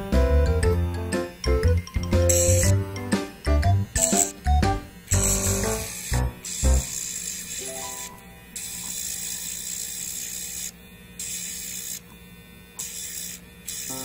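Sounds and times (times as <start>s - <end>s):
nail grinder humming: 0.0s - 14.0s.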